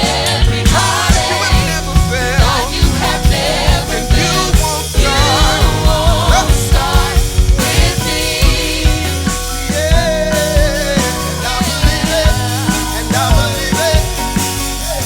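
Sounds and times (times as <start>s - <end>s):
bass: 0.0s - 15.0s
drums: 0.0s - 15.0s.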